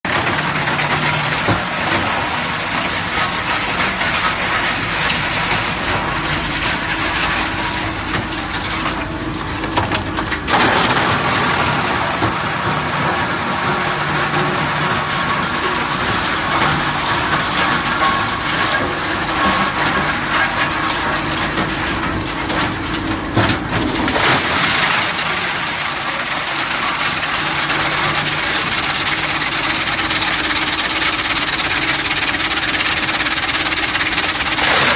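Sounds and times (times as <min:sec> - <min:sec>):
wood chipper running: 0:00.0 - 0:34.9
wood crunching and crackling: 0:00.1 - 0:34.9.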